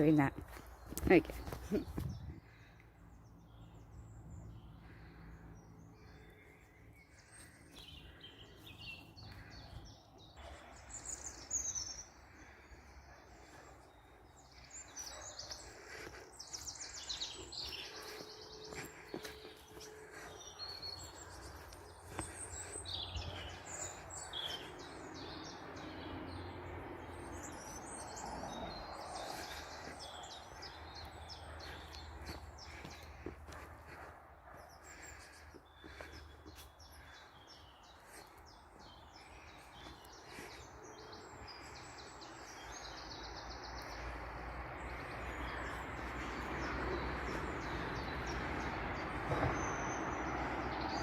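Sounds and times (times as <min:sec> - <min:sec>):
songbirds chirping and singing: 0:00.0 - 0:51.0.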